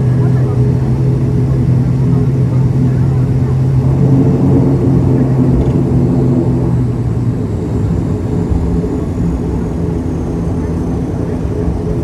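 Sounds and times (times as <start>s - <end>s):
turboprop engines droning in cabin: 0.0s - 12.0s.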